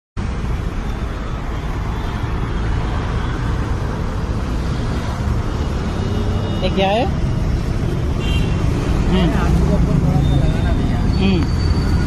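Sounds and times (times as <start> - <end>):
road traffic rumble: 0.2 - 12.0.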